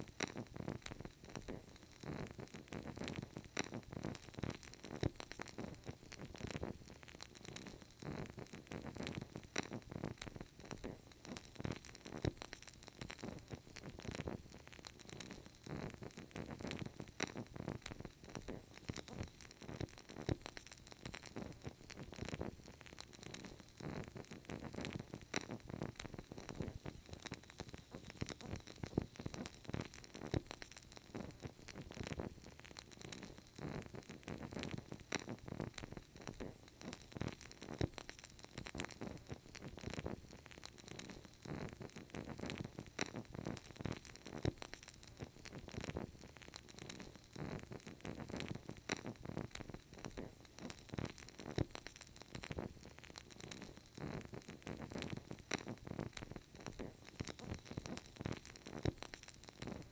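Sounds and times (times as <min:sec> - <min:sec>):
candle crackling: 0:00.0 - 0:59.9.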